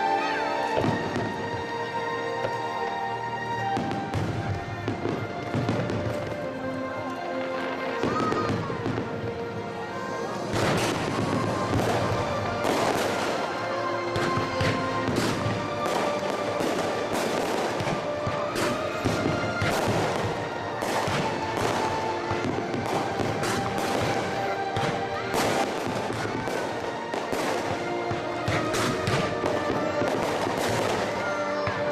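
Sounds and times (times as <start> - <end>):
fireworks bursting: 0.0 - 2.9, 3.5 - 31.9
music: 0.0 - 31.9.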